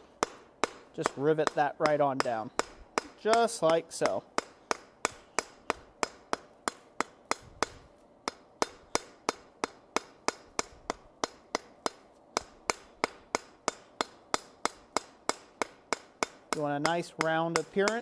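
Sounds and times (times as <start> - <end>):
hammer striking hot rivet on anvil: 0.0 - 18.0.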